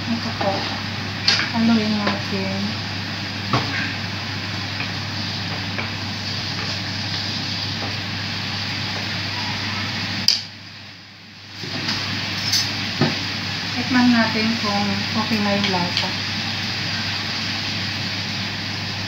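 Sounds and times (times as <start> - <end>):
sauce sizzling in frying pan: 0.0 - 19.0.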